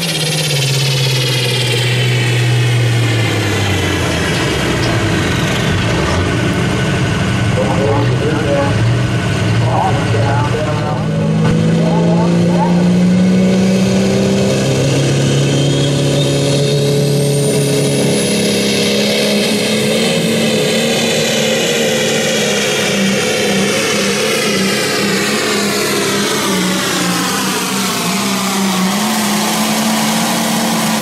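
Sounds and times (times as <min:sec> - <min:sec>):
diesel engine under heavy load: 0:00.0 - 0:31.0
high turbo whine: 0:00.0 - 0:31.0.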